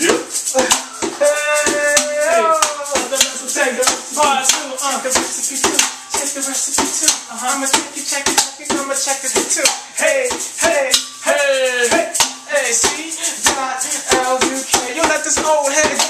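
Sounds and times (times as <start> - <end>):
hip hop beat: 0.0 - 16.0
man rapping: 0.0 - 16.0.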